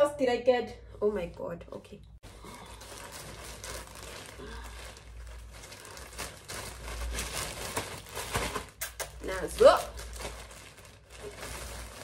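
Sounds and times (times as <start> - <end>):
packaging crinkling: 2.3 - 12.0.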